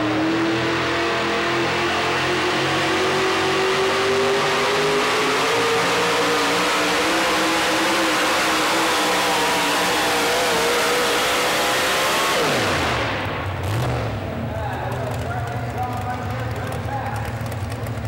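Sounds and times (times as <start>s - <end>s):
truck engine at high revs: 0.0s - 18.0s.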